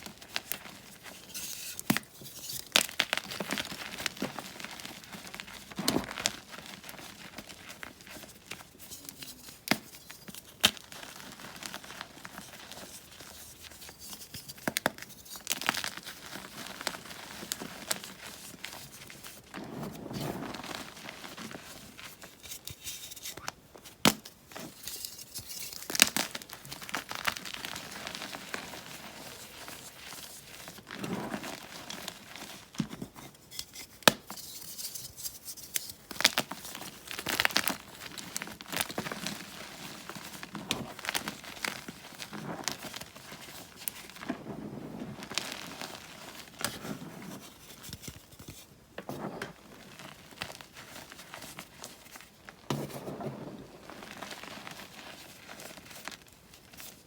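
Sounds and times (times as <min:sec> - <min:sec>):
chalk crunching and crackling: 0:00.0 - 0:57.0.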